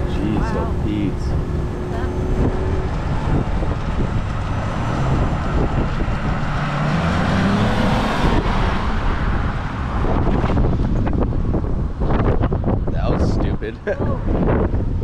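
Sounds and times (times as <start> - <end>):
car engine accelerating: 0.0 - 12.7
wind rushing across microphone: 0.0 - 15.0.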